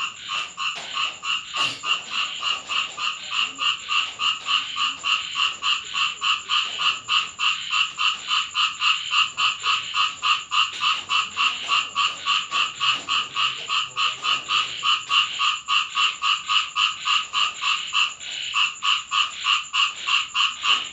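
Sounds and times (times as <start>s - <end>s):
frogs croaking: 0.0s - 20.9s.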